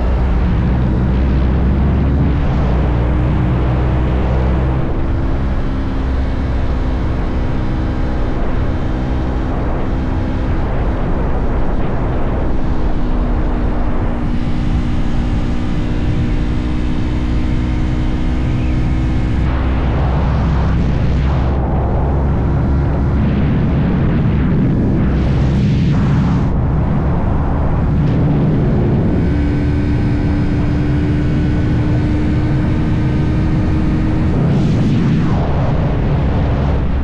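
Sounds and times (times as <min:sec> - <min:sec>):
motorcycle engine running: 0:00.0 - 0:37.0
rush of wind: 0:00.0 - 0:37.0.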